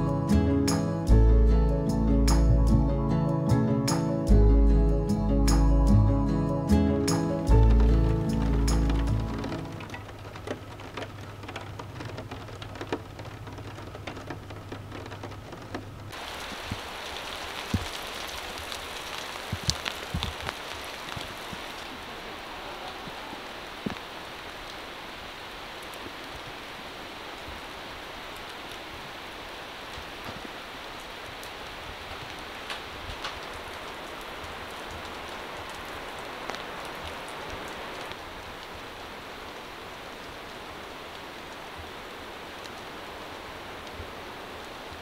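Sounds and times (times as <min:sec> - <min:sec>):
rain falling through forest: 0:00.0 - 0:45.0.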